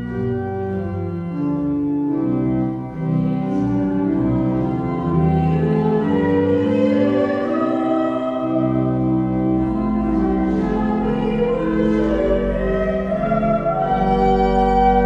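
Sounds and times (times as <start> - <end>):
church singing: 0.0 - 15.0
sustained accompanying chords: 0.0 - 15.0.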